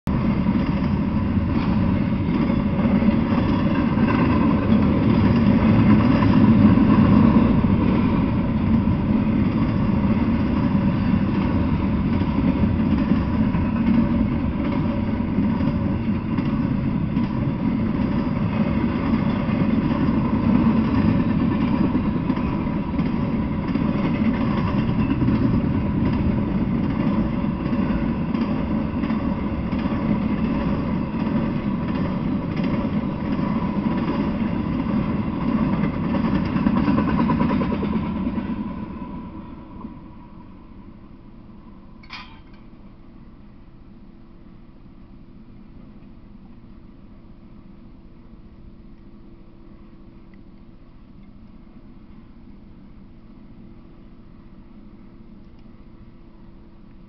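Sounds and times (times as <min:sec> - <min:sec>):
freight train wheels rumbling: 0:00.1 - 0:57.0.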